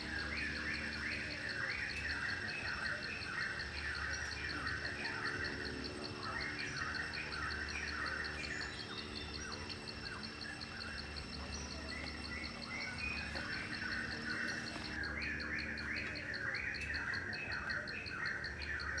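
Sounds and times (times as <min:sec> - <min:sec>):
birds chirping: 0:00.0 - 0:19.0
insect pulsing high chirp: 0:00.0 - 0:19.0.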